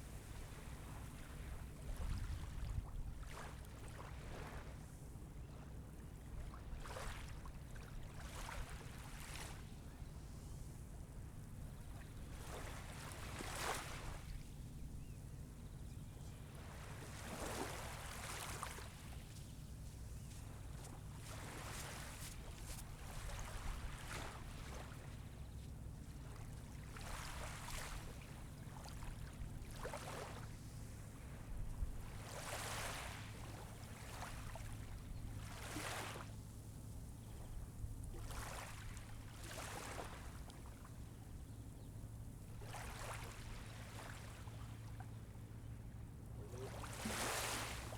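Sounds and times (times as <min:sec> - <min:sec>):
small waves breaking on shore: 0:00.0 - 0:05.0, 0:06.1 - 0:10.1, 0:10.8 - 0:14.7, 0:15.6 - 0:36.5, 0:38.0 - 0:41.3, 0:42.4 - 0:47.9.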